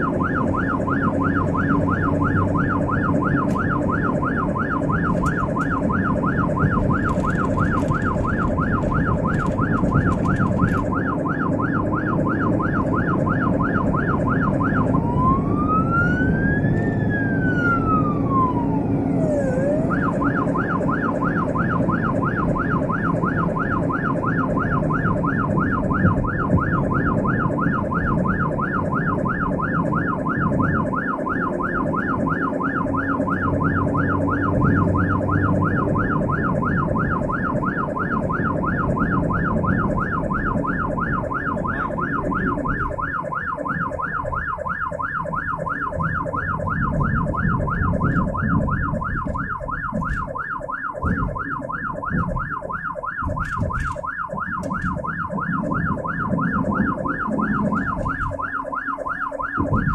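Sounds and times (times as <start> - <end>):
ambulance siren yelping: 0.0 - 59.9
engine and road rumble: 0.0 - 59.9.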